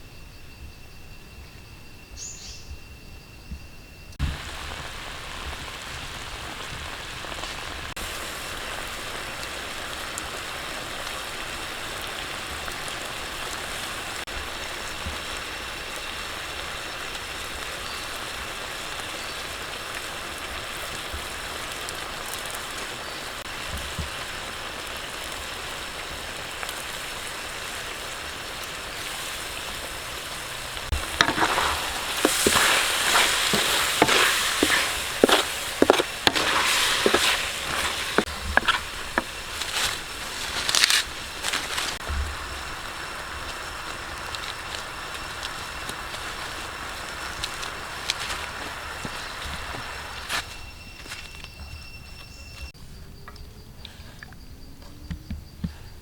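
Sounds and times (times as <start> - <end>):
food sizzling in a hot pan: 4.2 - 50.9.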